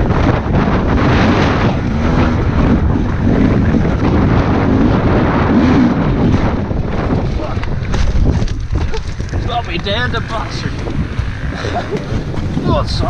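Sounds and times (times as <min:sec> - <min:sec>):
dirt bike engine revving: 0:00.0 - 0:13.0
wind buffeting microphone: 0:00.0 - 0:13.0.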